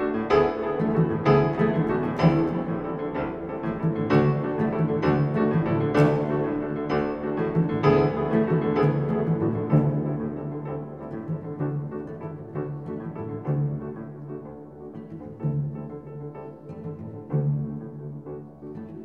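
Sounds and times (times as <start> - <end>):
bowed string tones: 0.0 - 19.0
piano notes: 0.0 - 19.0.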